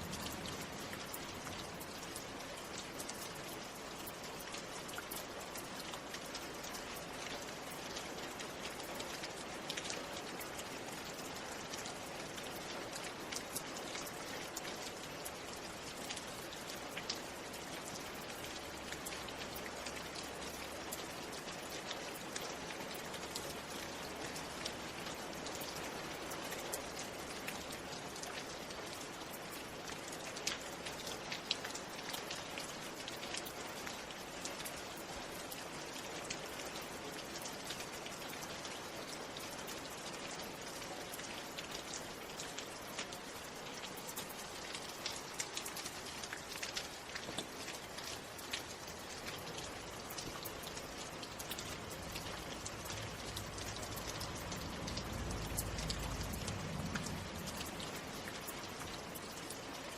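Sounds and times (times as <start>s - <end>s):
raindrops ticking on a surface: 0.0s - 59.9s
steady rain hiss: 0.0s - 59.9s.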